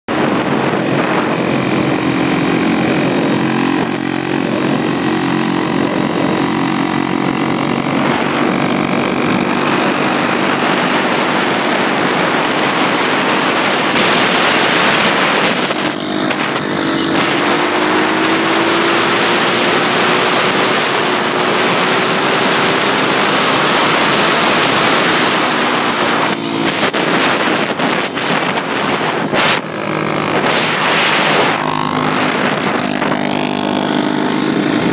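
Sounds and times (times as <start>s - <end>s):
pit bike engines running: 0.1s - 34.9s
wind noise on microphone: 0.1s - 34.9s.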